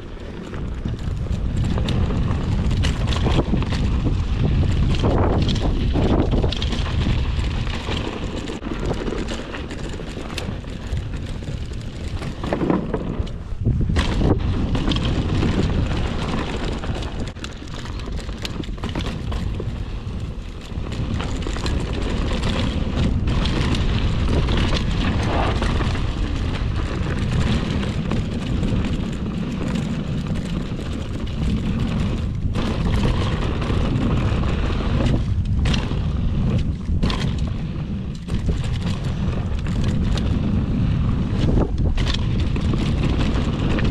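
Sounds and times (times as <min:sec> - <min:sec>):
bike rattling: 0:00.0 - 0:43.9
tyres rolling on dirt: 0:00.0 - 0:43.9
wind buffeting microphone: 0:00.0 - 0:43.9.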